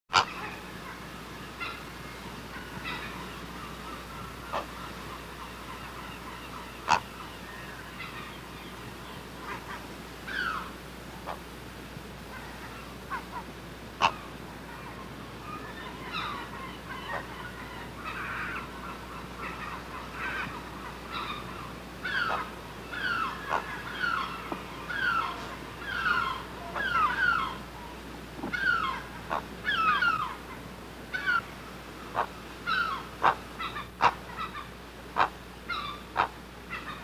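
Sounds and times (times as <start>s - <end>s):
herons squawking: 0.1s - 11.6s, 12.2s - 37.0s.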